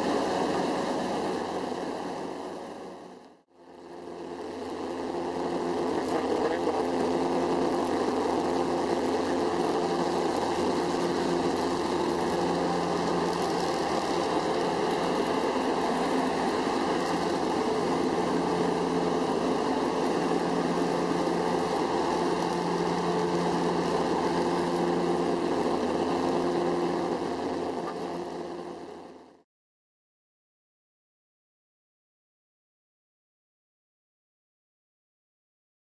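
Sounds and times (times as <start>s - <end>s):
propeller plane engine drone: 0.0s - 29.4s.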